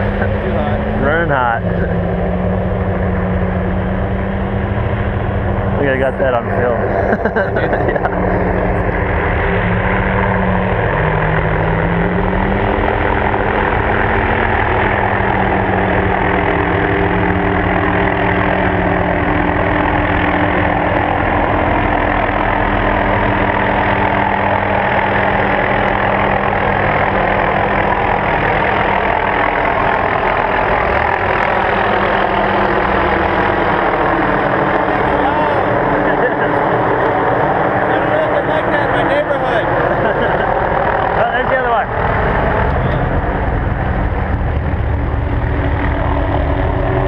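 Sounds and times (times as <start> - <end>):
engine idling: 0.0 - 47.0.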